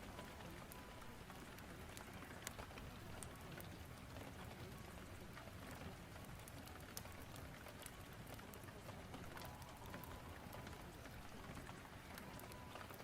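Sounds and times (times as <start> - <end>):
fireplace crackles: 0.0 - 13.0
steady rain: 0.0 - 13.0.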